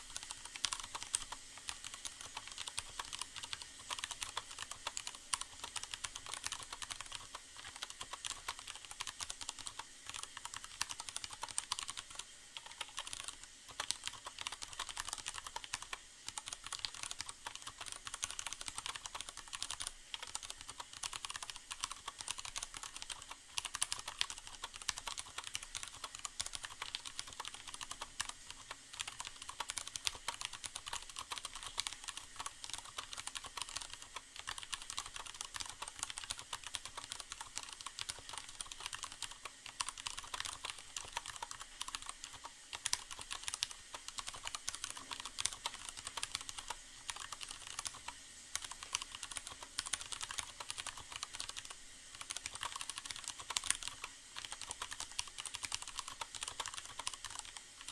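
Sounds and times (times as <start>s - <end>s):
fast typing on mechanical keyboard: 0.0s - 57.9s.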